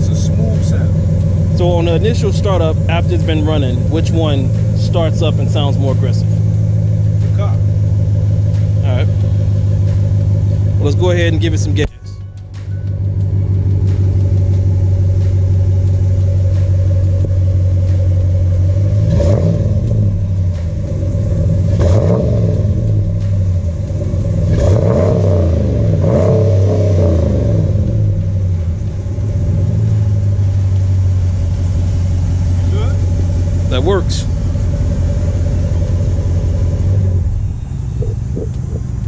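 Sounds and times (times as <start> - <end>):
truck engine idling and revving: 0.0 - 39.0.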